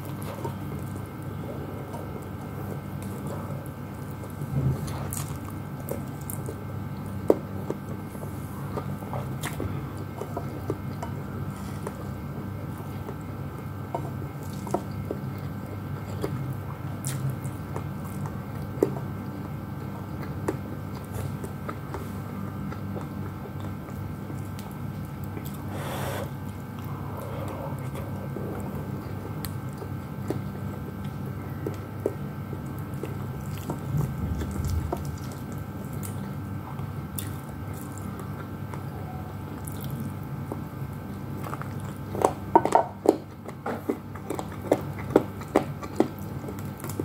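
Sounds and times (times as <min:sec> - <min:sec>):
person chewing: 0:00.0 - 0:47.0
steady hum: 0:00.0 - 0:47.0.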